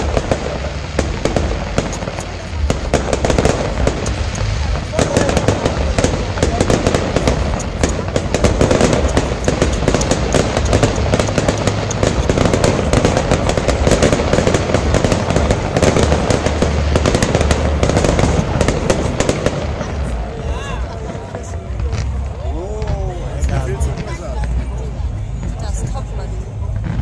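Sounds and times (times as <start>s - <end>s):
fireworks crackling and banging: 0.0s - 27.0s.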